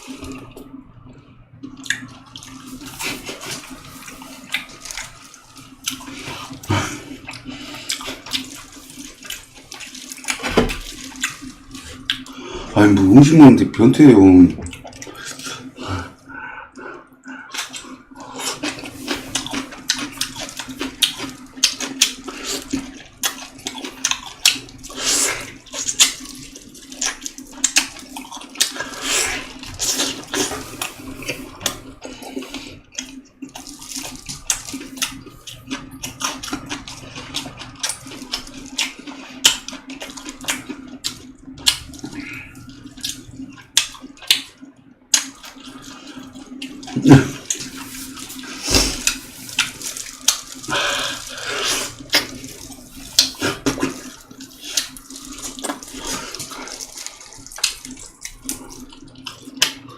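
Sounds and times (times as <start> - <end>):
wet chewing: 1.7 - 12.5, 14.6 - 59.9
slurping: 1.7 - 13.4, 14.0 - 59.9.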